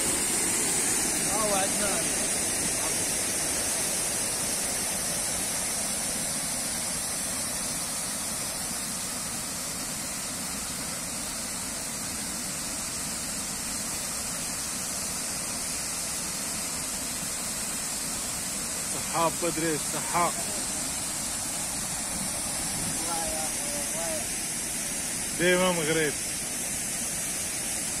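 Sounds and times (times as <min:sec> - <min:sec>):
water rushing and falling into pool: 0:00.0 - 0:28.0.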